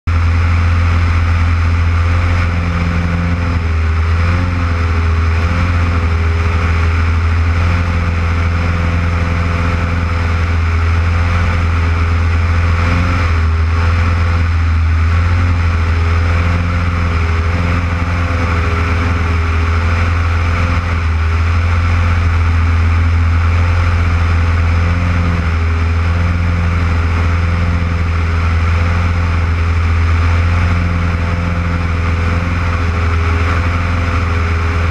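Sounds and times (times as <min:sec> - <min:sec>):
propeller aircraft engine droning: 0:00.0 - 0:34.9.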